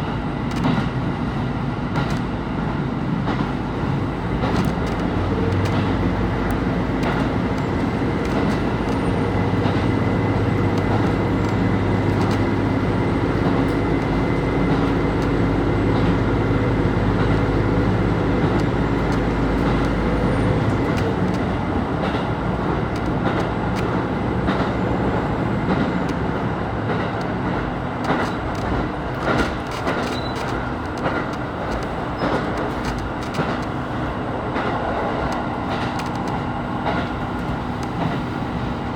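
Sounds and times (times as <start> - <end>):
diesel engine droning: 0.0 - 38.9
wheels clicking over rail joints: 0.0 - 38.9.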